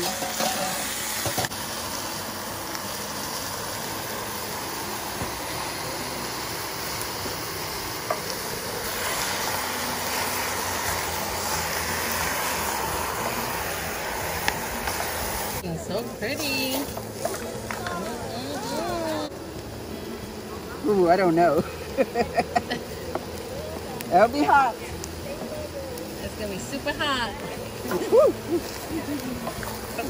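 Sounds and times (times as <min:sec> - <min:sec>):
poultry sizzling in a pot: 0:00.0 - 0:30.0.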